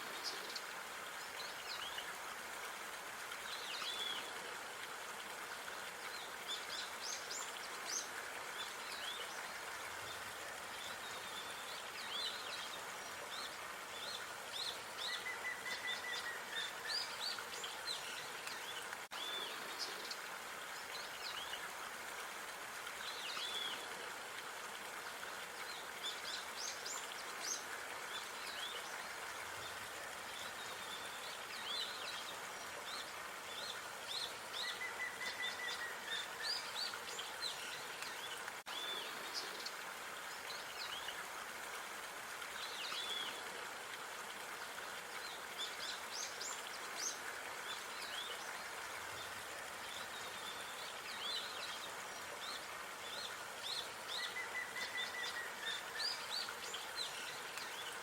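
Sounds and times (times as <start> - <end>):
outdoor park ambience hiss: 0.0 - 58.0.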